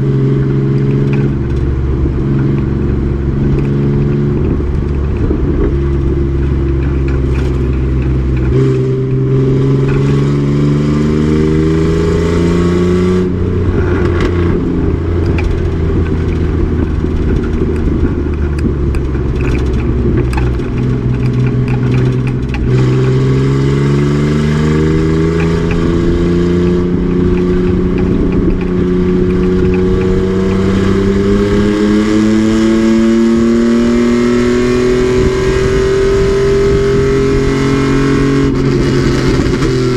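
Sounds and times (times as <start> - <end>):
truck engine accelerating hard: 0.0 - 39.9.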